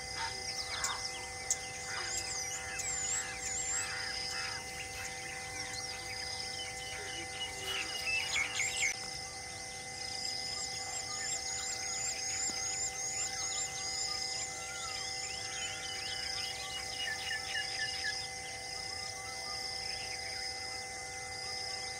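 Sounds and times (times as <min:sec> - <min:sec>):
birds chirping and calling: 0:00.0 - 0:09.2, 0:09.9 - 0:20.1
steady drone: 0:00.0 - 0:21.9.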